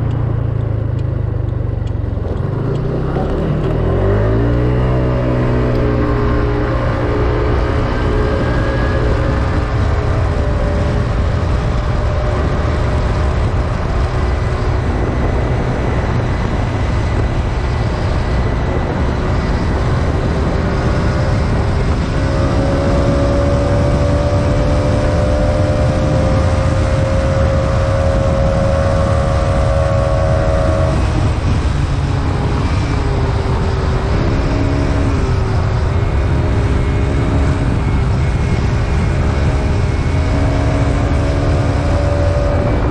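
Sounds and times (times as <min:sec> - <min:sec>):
wind buffeting on microphone: 0:00.0 - 0:42.9.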